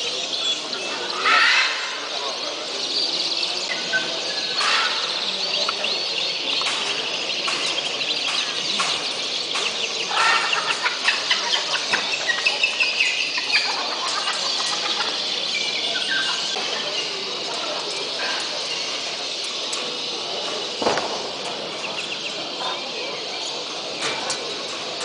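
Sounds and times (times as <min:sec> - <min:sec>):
caged birds chirping and trilling: 0:00.0 - 0:25.0
loud repeated bird calls: 0:00.0 - 0:25.0.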